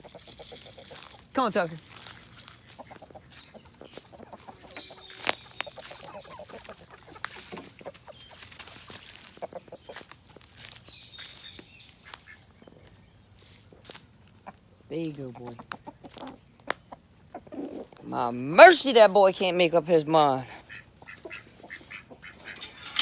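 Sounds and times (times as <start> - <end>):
chickens clucking: 0.0 - 18.1, 20.5 - 23.0.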